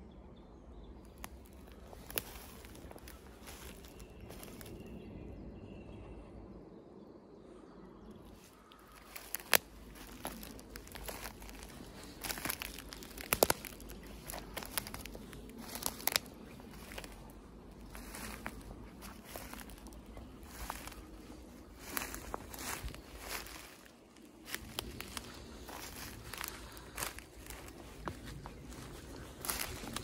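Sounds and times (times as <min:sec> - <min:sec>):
twigs snapping underfoot: 0:01.0 - 0:04.8, 0:08.4 - 0:30.0
footsteps through dry brush: 0:01.0 - 0:05.0, 0:08.3 - 0:30.0.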